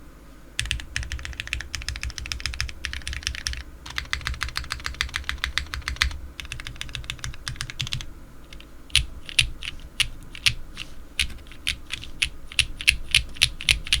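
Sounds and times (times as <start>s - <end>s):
mechanical keyboard typing: 0.6s - 14.0s.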